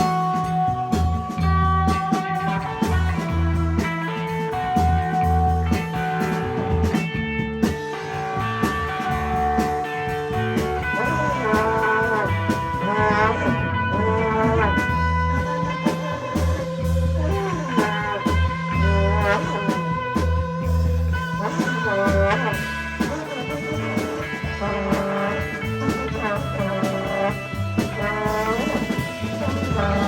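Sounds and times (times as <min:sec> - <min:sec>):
bass guitar: 0:00.0 - 0:30.0
drums: 0:00.0 - 0:30.0
electric guitar bending notes: 0:00.0 - 0:30.0.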